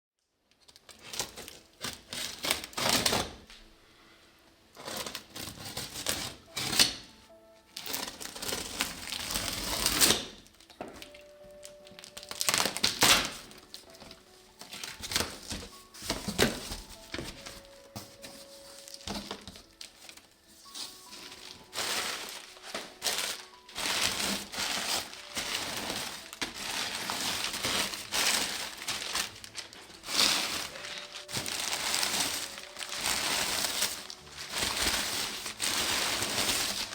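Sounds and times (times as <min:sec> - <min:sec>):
faint background music: 0:00.2 - 0:36.9
packaging rustling and crinkling: 0:00.5 - 0:03.5, 0:04.8 - 0:07.0, 0:07.7 - 0:36.9.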